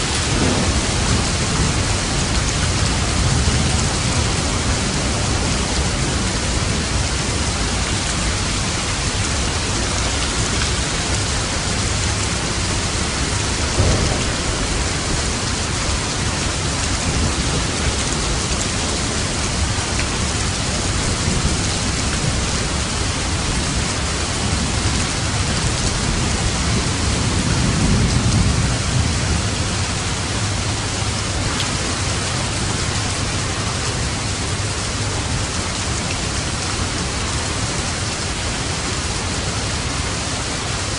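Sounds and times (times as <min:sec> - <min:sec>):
low thunder rumbling: 0:00.0 - 0:35.7
rain falling on a roof: 0:00.0 - 0:40.9.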